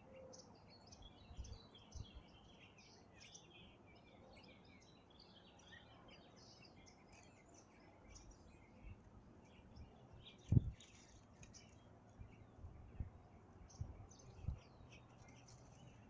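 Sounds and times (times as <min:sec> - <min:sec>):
faint background noise: 0:00.0 - 0:16.0
small birds chirping: 0:00.0 - 0:16.0.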